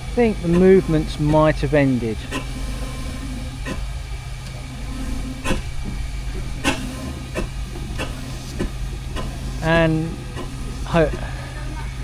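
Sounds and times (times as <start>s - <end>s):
steam engine hissing: 0.0s - 12.0s.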